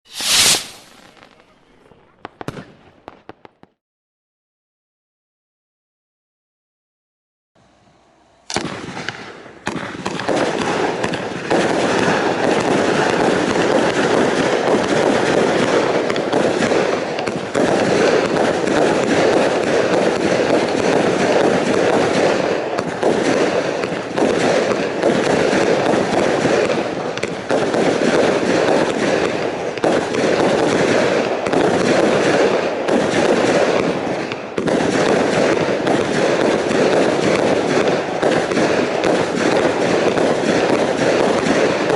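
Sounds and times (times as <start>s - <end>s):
firework launches and bursting shells: 0.0s - 1.7s, 8.5s - 41.9s.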